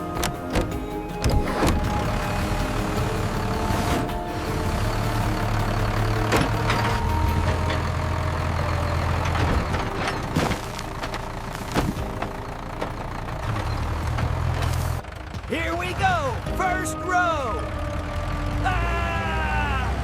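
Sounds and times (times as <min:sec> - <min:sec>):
sharp knocks and clanks: 0:00.0 - 0:16.6
tractor engine running: 0:00.0 - 0:20.0.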